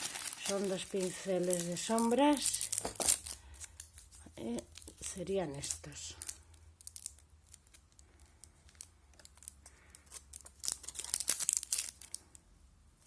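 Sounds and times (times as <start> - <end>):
wrapping crinkling and tearing: 0.0 - 12.4.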